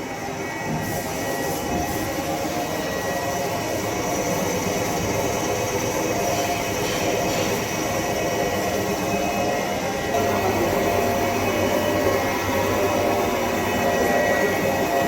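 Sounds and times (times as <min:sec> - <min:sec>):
lathe machine drone: 0:00.0 - 0:15.0.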